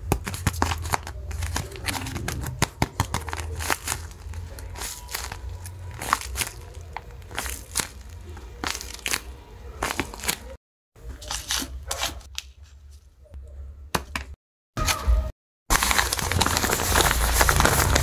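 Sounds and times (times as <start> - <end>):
paper crinkling and rustling: 0.0 - 13.0, 15.7 - 18.0.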